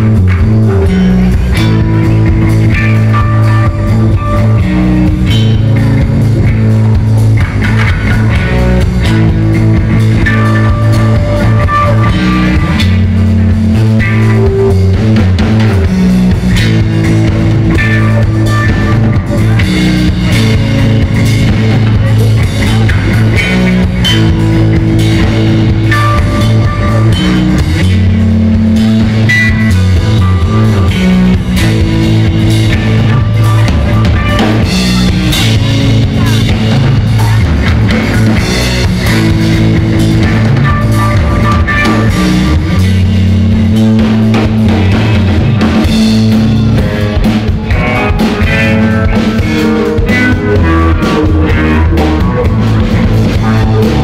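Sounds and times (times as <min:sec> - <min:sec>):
bass notes: 0:00.0 - 0:54.0
drum kit: 0:00.0 - 0:54.0
electric guitars: 0:00.0 - 0:54.0.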